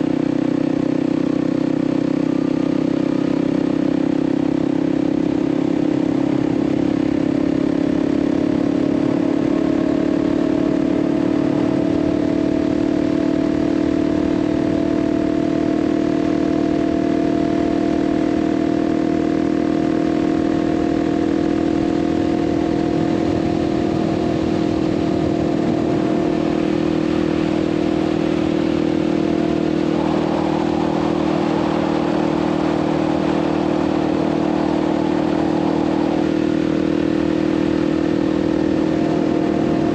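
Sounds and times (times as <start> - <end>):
motorcycle engine cruising: 0.0 - 39.9
road and wind rush: 0.0 - 39.9.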